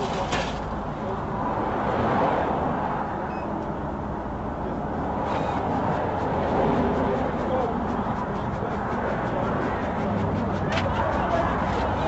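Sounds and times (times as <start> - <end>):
vehicle and road noise: 0.0 - 12.0.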